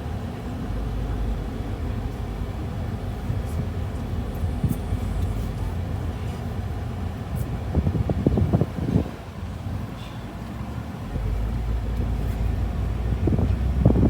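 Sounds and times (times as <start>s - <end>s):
vehicle rumbling in motion: 0.0s - 14.0s.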